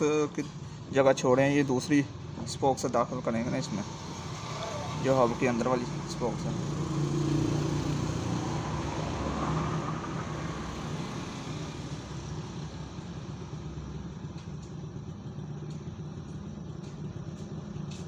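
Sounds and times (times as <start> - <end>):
low rumble of motor vehicles: 0.0 - 18.0.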